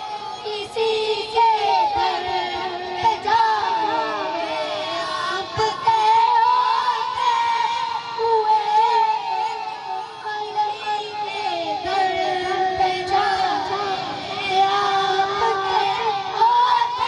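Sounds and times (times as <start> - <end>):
boys singing through microphones: 0.0 - 17.0.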